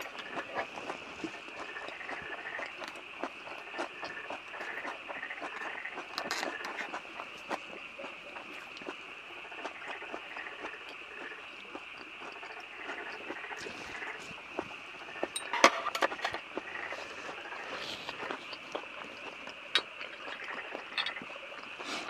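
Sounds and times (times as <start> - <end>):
chewing: 0.0 - 22.0
frogs croaking: 0.0 - 22.0
night insects chirping: 0.0 - 22.0.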